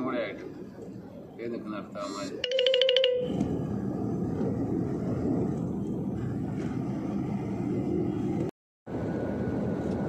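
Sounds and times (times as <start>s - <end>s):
truck engine and tyre rumble: 0.0s - 10.0s.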